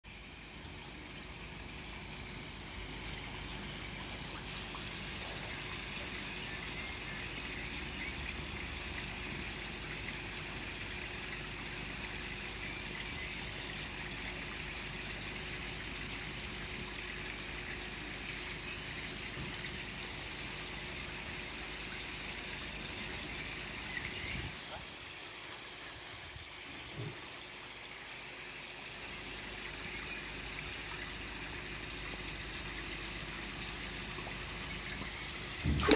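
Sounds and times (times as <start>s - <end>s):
waterfall pouring into pond: 0.1s - 35.9s.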